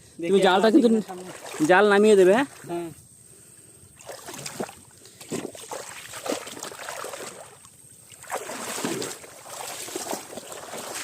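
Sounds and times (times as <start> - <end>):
shallow water splashing: 1.0 - 2.9, 4.0 - 11.0.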